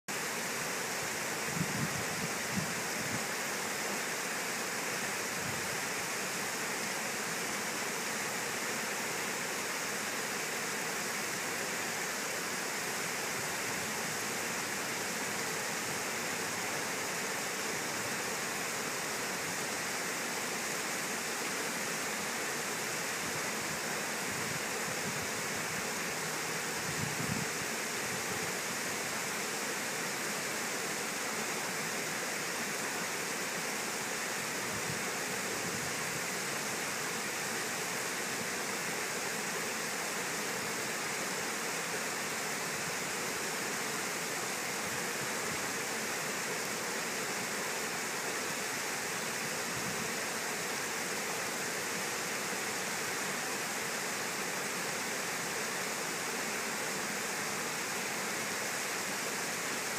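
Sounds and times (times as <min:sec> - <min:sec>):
water rushing over dam: 0:00.1 - 0:59.9.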